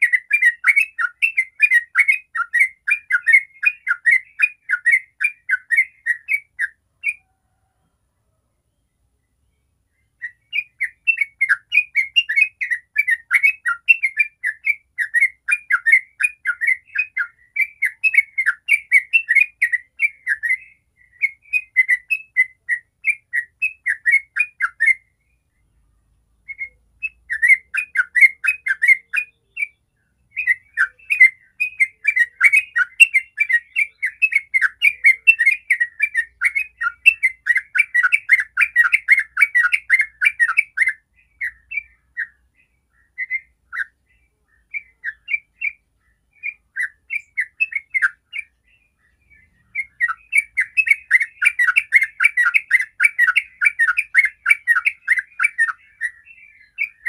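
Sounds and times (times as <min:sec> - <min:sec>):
bird singing chattering notes: 0:00.0 - 0:07.2, 0:10.0 - 0:25.7, 0:26.4 - 0:57.0.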